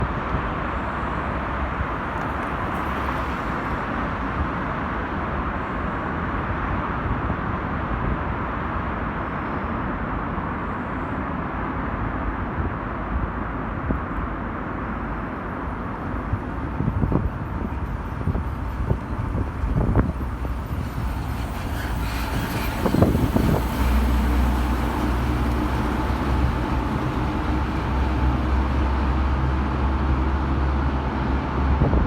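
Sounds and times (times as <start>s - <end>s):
heavy truck rumbling in tunnel: 0.0s - 32.0s.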